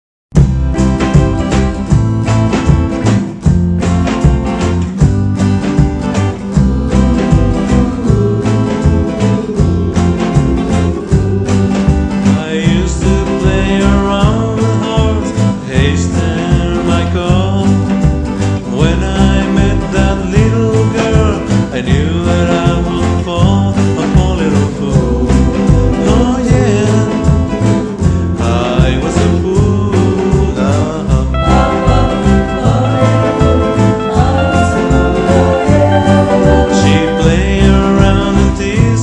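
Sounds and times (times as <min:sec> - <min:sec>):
pop song with guitar: 0:00.4 - 0:39.0
person singing: 0:06.3 - 0:17.9, 0:18.6 - 0:39.0.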